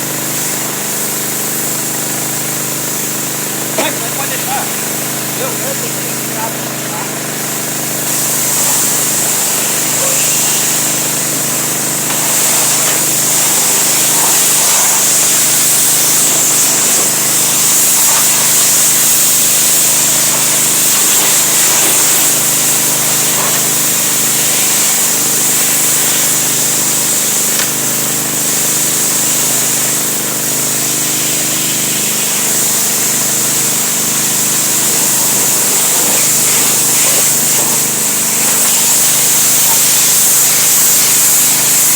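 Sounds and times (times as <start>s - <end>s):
pressure washer motor hum: 0.0s - 41.9s
water spray hissing: 0.0s - 41.9s.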